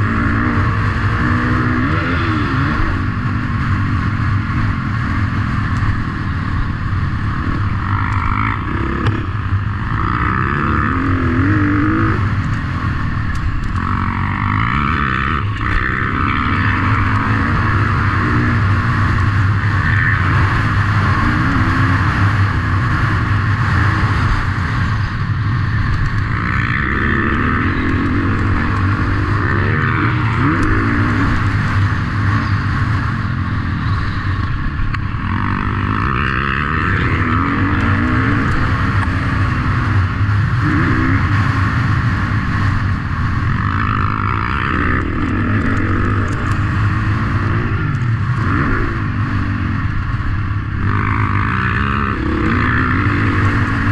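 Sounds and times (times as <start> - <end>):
motocross engines revving: 0.0 - 53.9
steady low drone: 0.0 - 53.9.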